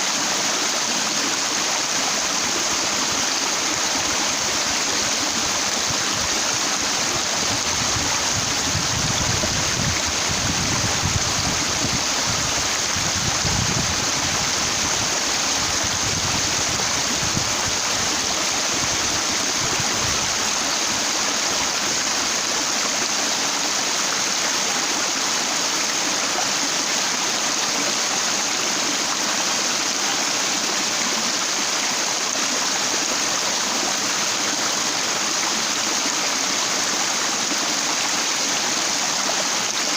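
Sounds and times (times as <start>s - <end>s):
stream water rushing over rock: 0.0s - 39.9s.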